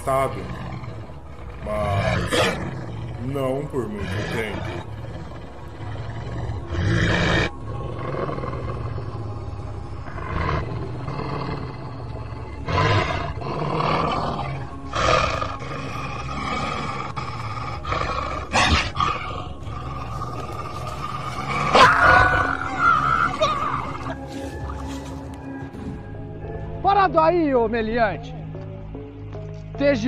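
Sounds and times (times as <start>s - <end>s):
beast roars: 0.0s - 25.5s
background music: 0.0s - 30.0s.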